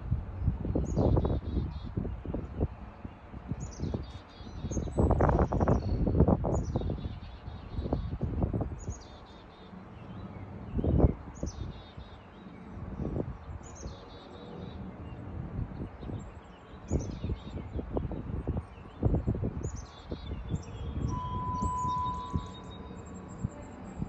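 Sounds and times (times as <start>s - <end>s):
songbird singing: 0.4s - 24.0s.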